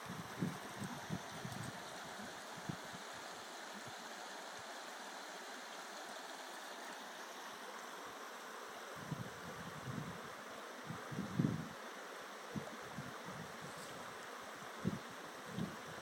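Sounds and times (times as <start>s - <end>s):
stream rushing: 0.0s - 16.0s.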